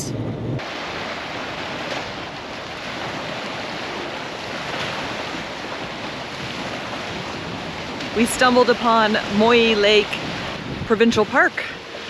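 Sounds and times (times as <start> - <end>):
choppy lake water: 0.0 - 12.0
wind blowing over microphone: 0.0 - 12.0.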